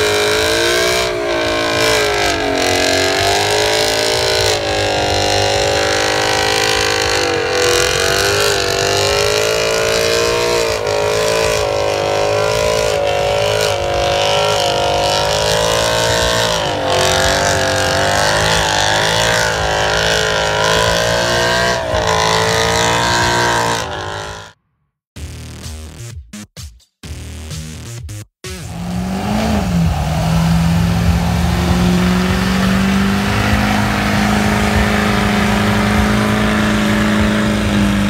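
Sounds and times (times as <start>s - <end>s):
car engine revving high: 0.0s - 24.6s, 28.5s - 38.0s.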